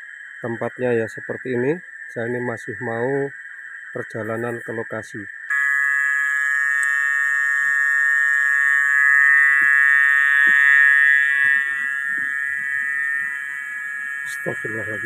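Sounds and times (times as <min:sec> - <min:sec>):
night insects buzzing: 0:00.0 - 0:15.0.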